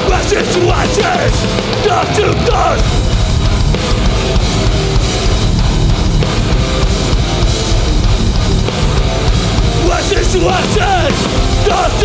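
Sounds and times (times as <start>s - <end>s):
hardcore band playing live: 0.0s - 12.0s.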